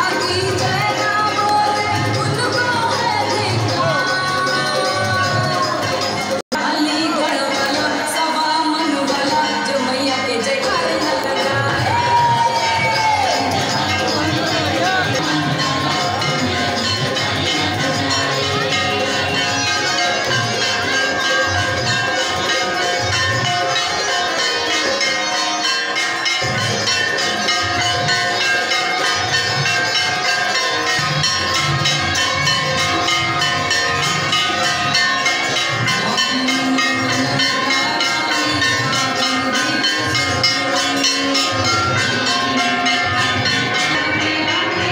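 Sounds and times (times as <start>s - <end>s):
crowd voices: 0.0s - 44.9s
temple bells ringing: 0.0s - 44.9s.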